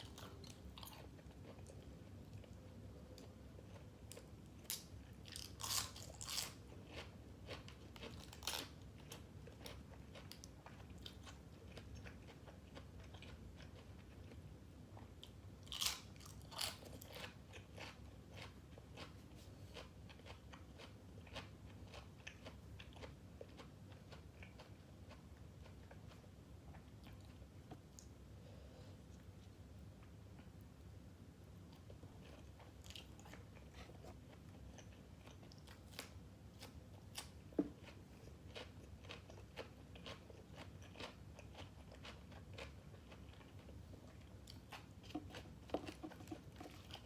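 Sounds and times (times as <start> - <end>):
soft chewing: 0.0 - 47.0.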